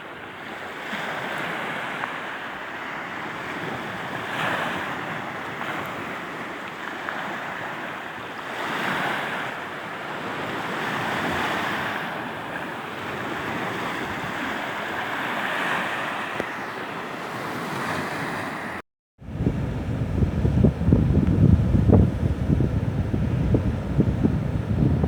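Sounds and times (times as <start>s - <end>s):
sea waves washing ashore: 0.0s - 25.0s
wind on microphone: 0.5s - 25.0s.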